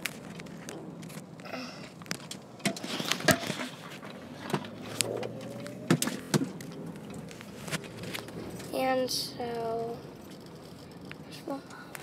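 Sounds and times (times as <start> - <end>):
car hum: 0.0 - 12.0.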